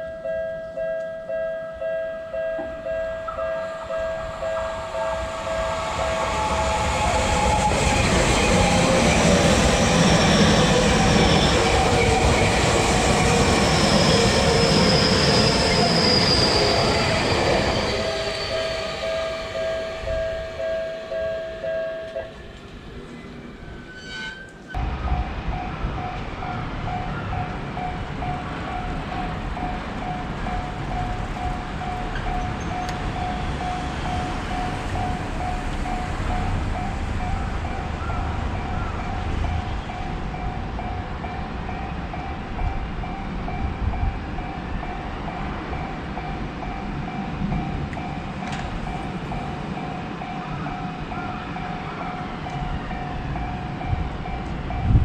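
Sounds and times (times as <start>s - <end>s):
passing train rumble: 0.0s - 55.0s
railroad crossing bell ringing: 0.0s - 55.0s.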